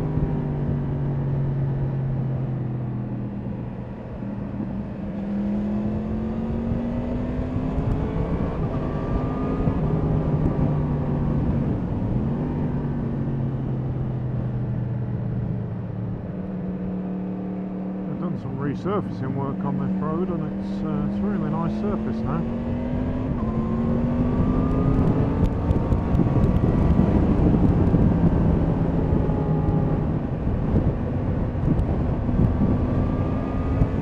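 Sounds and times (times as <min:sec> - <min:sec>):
motorcycle engine revving: 0:00.0 - 0:15.6, 0:16.4 - 0:34.0
wind and road noise: 0:00.0 - 0:34.0.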